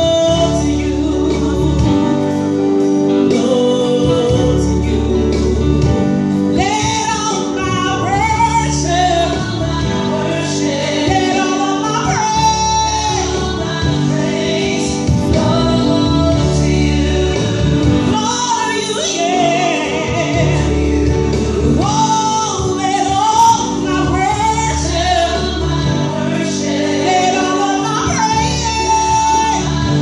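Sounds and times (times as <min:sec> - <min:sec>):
sustained instrumental backing: 0:00.0 - 0:30.0
woman singing gospel: 0:00.0 - 0:30.0.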